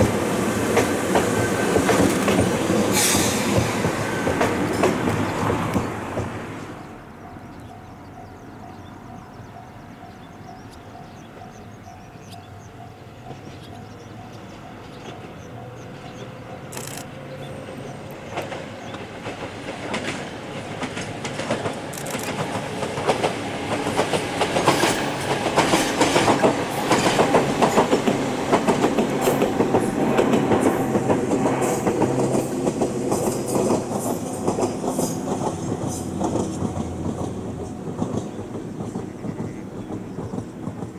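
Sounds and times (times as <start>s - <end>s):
electric train passing: 0.0s - 40.9s.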